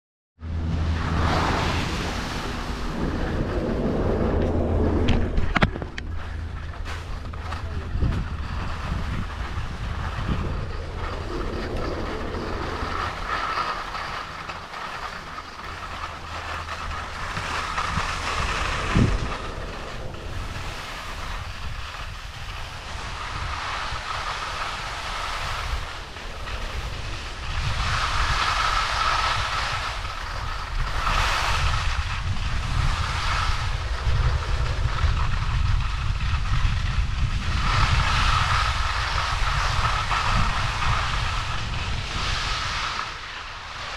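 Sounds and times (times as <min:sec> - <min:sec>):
chairlift machinery rumble: 0:00.4 - 0:43.9
wind noise on microphone: 0:00.4 - 0:43.9.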